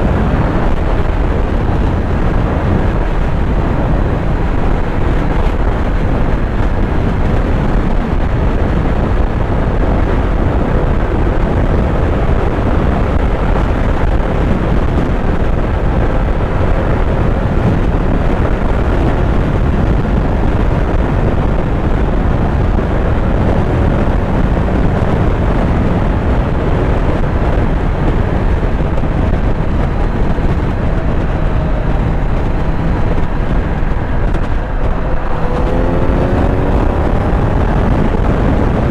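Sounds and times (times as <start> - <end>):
motorcycle engine cruising: 0.0 - 38.9
wind rush: 0.0 - 38.9.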